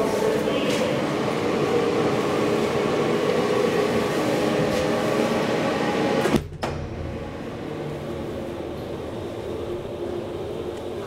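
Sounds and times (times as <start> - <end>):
elevator mechanical hum: 0.0 - 11.0.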